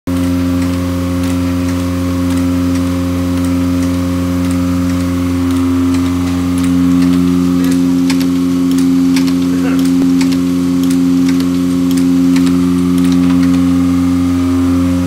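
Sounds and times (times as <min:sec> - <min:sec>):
light machine clicks: 0:00.1 - 0:13.8
machine hum: 0:00.1 - 0:15.0.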